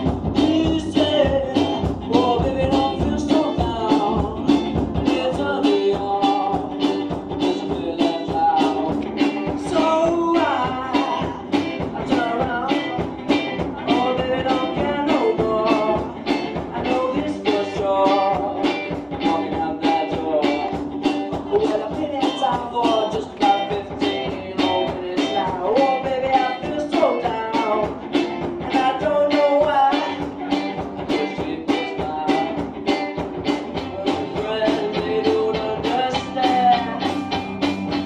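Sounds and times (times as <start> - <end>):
person singing into microphone: 0.0 - 20.8, 21.4 - 33.0, 33.8 - 37.3
drum beat: 0.0 - 38.0
electric guitars: 0.0 - 38.0.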